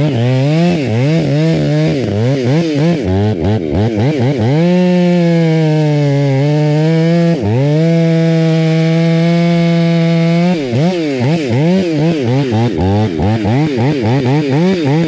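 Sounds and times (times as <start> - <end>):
chainsaw cutting at full throttle: 0.0 - 15.0.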